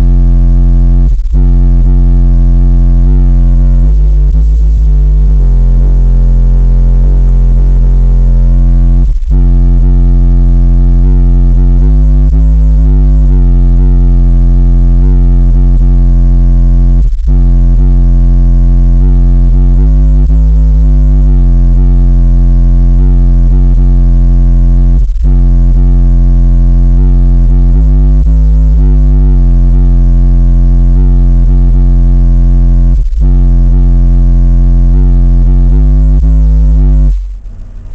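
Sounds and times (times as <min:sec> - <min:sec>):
loud music with deep bass: 0:00.0 - 0:37.9.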